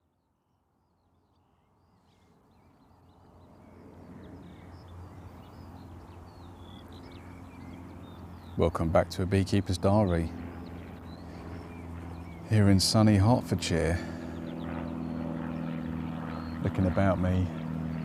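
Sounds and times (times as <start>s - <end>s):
birds chirping and singing: 0.9s - 18.0s.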